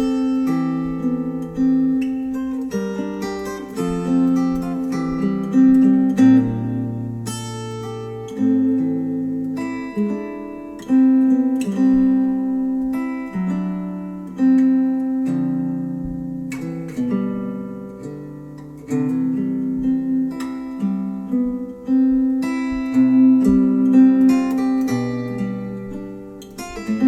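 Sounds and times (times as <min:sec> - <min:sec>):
plucked acoustic guitar music: 0:00.0 - 0:27.0.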